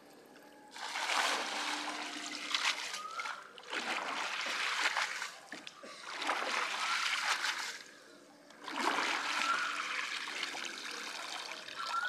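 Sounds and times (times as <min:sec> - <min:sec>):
water trickling and splashing: 0:00.7 - 0:07.9, 0:08.6 - 0:12.0.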